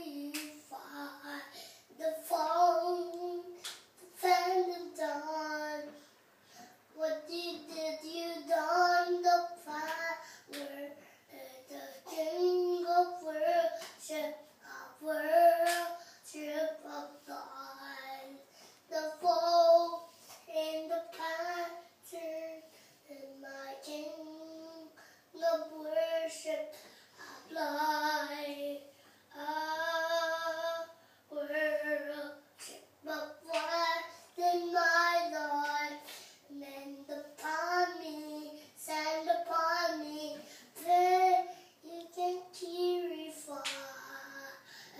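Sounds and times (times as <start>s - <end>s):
young boy singing: 0.0s - 6.0s, 6.9s - 44.9s.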